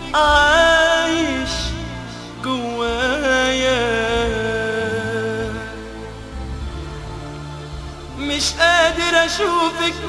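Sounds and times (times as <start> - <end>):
low bass notes: 0.0 - 10.0
sustained instrumental tones: 0.0 - 10.0.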